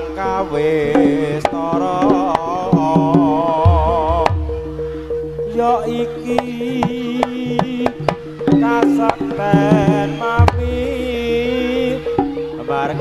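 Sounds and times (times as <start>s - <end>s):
steady held tone: 0.0s - 13.0s
wavering high melody: 0.0s - 13.0s.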